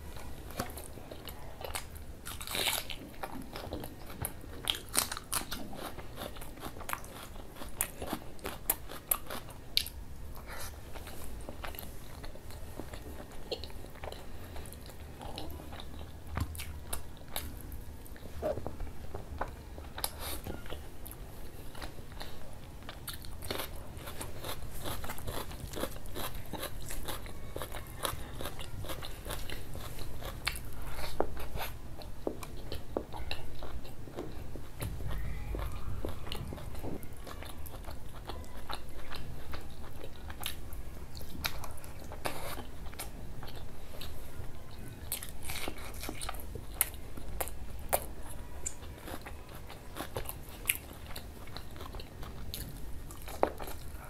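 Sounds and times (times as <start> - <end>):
man chewing and crunching food: 0.0 - 54.0.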